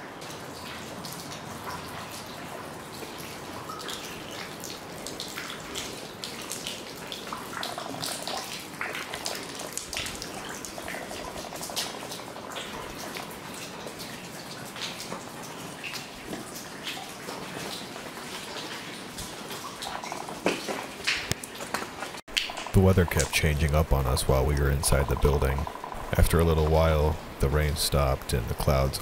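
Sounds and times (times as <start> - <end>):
rain patter: 0.0 - 29.0
sharp water drips: 0.0 - 29.0.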